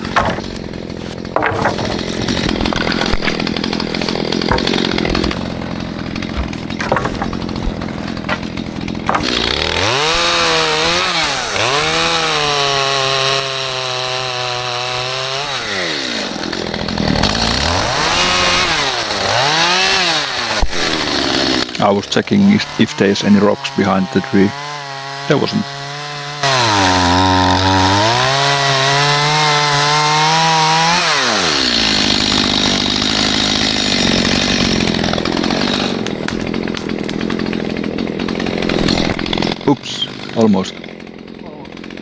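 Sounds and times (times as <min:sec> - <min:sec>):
chainsaw cutting and revving: 0:00.0 - 0:42.0.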